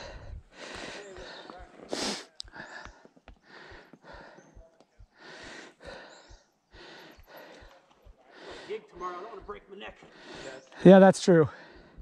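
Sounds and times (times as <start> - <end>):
person breathing hard: 0.0 - 10.6, 11.5 - 12.0.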